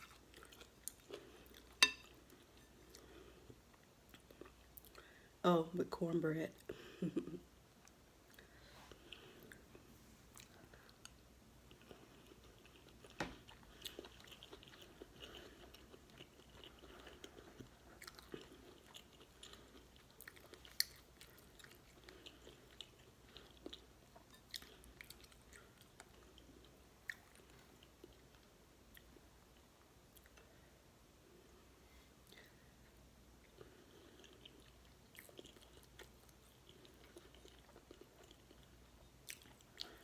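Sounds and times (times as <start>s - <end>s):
chewing food: 0.0s - 5.1s, 6.6s - 30.7s, 32.2s - 40.0s.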